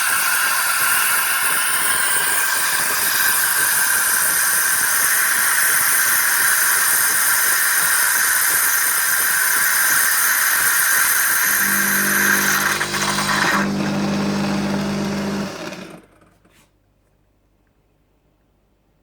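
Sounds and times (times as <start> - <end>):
coffee machine hissing steam: 0.0 - 16.0.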